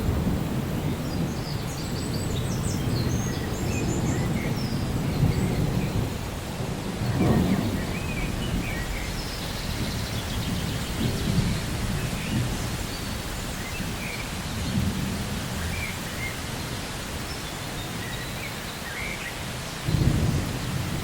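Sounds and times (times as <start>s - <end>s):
distant thunder: 0.0s - 15.8s, 19.8s - 21.0s
rain rumble: 0.0s - 21.0s
small birds chirping: 0.8s - 6.1s, 7.0s - 21.0s.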